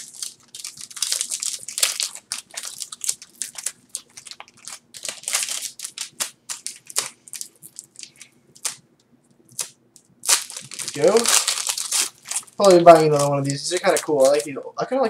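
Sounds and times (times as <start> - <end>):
foil wrapper crinkling and tearing: 0.0 - 8.8, 9.5 - 14.6.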